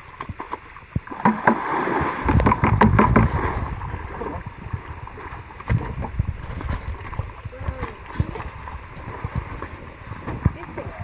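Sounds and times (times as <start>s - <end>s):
splashing churning water: 0.0s - 11.0s.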